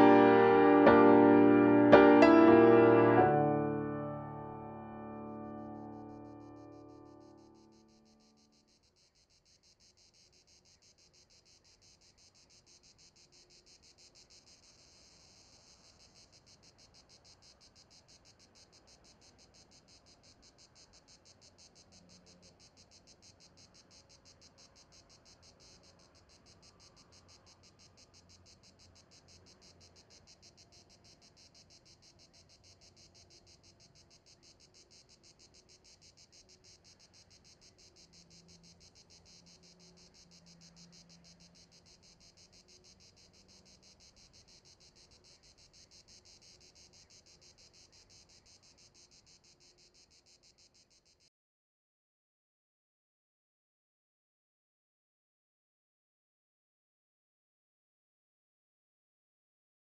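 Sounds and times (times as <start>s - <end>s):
crickets chirping: 0.0s - 51.3s.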